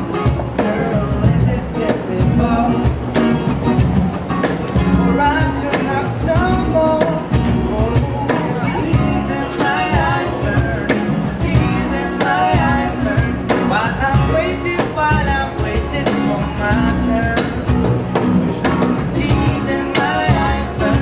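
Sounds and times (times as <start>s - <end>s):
man singing: 0.0s - 3.2s, 4.8s - 17.9s, 18.7s - 21.0s
acoustic guitar strumming: 0.0s - 21.0s
cajon beating a rhythm: 0.0s - 21.0s
upright double bass: 0.0s - 21.0s.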